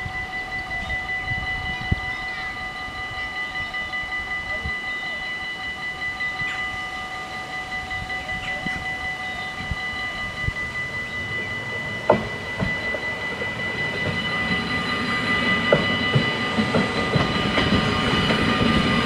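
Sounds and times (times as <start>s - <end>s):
level crossing bells ringing: 0.0s - 19.0s.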